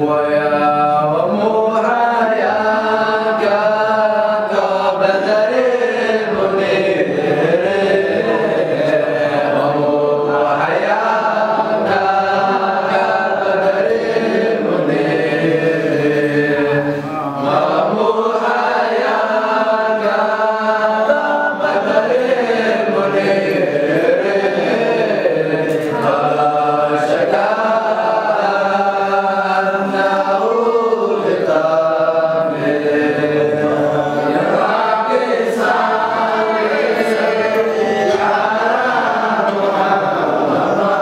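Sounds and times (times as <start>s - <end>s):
young men chanting together: 0.0s - 41.0s.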